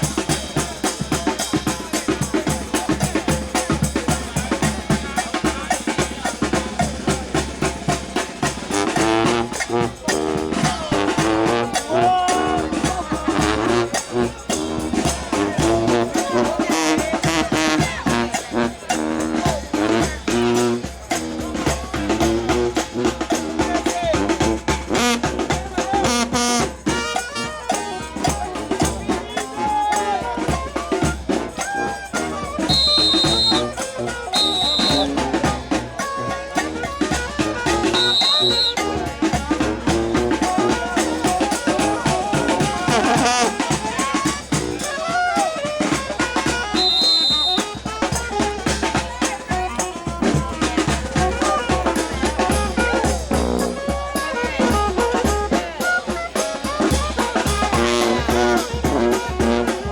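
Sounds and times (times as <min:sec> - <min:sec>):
brass band playing: 0:00.0 - 0:59.9
crowd voices: 0:00.0 - 0:59.9.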